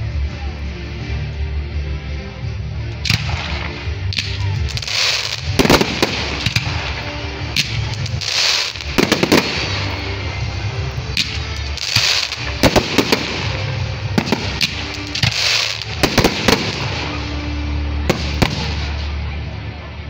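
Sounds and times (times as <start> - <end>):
music with steady bass: 0.0 - 20.0
fireworks bangs and cracks: 3.0 - 19.2
fireworks crackling rushes: 3.0 - 19.7.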